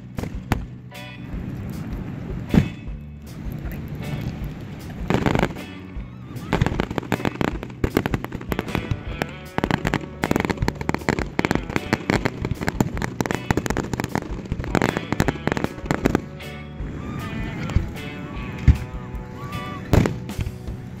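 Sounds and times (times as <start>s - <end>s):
fireworks bangs pops and crackles: 0.0s - 19.0s, 19.9s - 21.0s.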